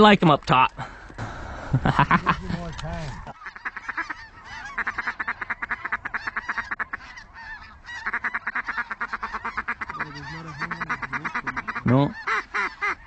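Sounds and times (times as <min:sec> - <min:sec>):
geese honking: 0:01.2 - 0:13.0.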